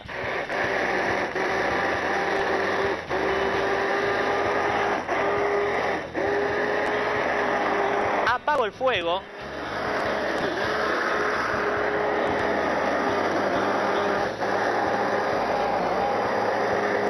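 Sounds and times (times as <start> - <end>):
immersion blender motor whining: 0.0 - 8.6, 9.2 - 17.0.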